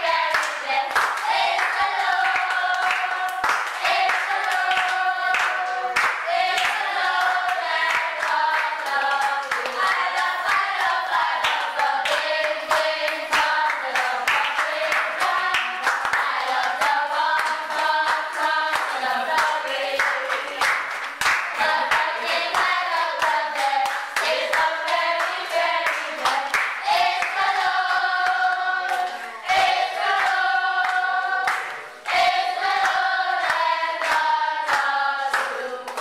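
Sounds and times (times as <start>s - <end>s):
group of people singing: 0.0s - 36.0s
hands clapping in time: 0.3s - 29.4s, 30.1s - 36.0s.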